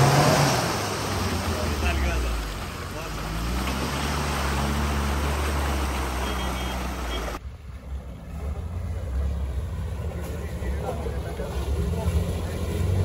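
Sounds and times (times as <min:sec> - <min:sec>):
driving noise: 0:00.0 - 0:13.0
vehicle engine running under load: 0:00.0 - 0:13.0.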